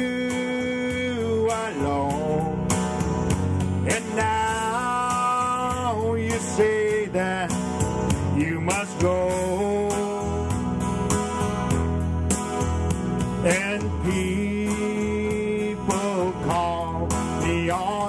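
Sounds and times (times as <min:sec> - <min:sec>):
acoustic guitar strumming: 0:00.0 - 0:18.0
country music: 0:00.0 - 0:18.0.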